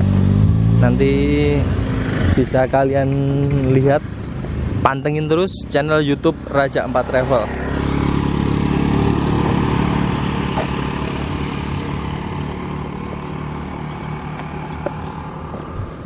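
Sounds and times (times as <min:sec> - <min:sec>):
motor scooter passing: 0:00.0 - 0:04.8, 0:06.1 - 0:16.0.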